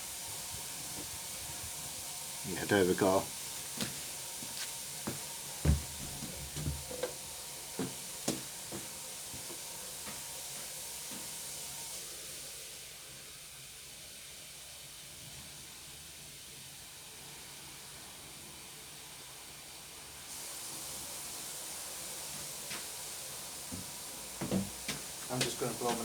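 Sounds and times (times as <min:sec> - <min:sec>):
water running from a tap: 0:00.0 - 0:12.8, 0:15.0 - 0:26.0.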